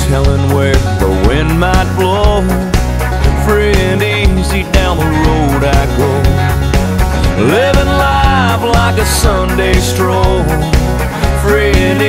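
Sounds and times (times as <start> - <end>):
country song: 0.0 - 12.0
steady drum beat: 0.0 - 12.0.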